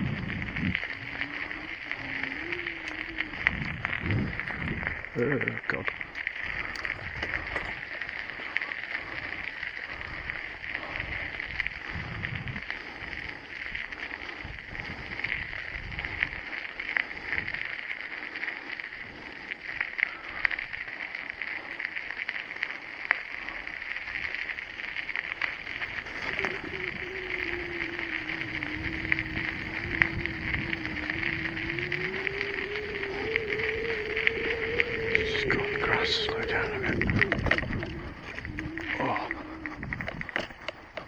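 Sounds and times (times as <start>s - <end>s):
bicycle clicks and rattles: 0.0s - 35.2s, 37.0s - 41.0s
steady high-pitched hiss: 0.0s - 41.0s
wind rumble on microphone: 0.0s - 41.0s.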